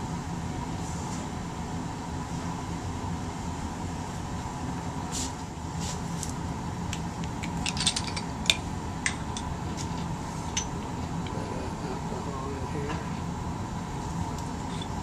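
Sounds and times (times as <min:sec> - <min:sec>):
ventilation fan hum: 0:00.0 - 0:15.0.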